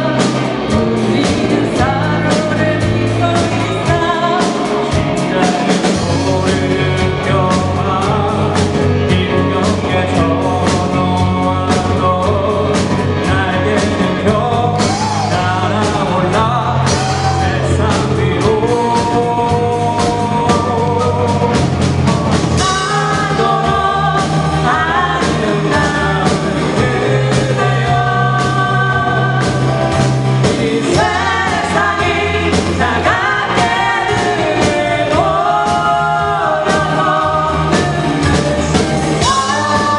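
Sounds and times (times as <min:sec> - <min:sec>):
bass: 0:00.0 - 0:39.9
drums: 0:00.0 - 0:39.9
person singing: 0:00.0 - 0:39.9.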